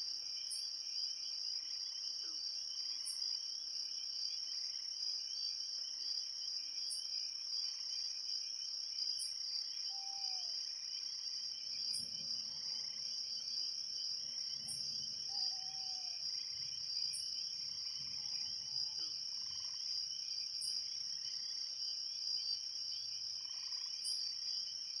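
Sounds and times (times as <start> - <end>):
insect chorus chirring: 0.3 - 25.0.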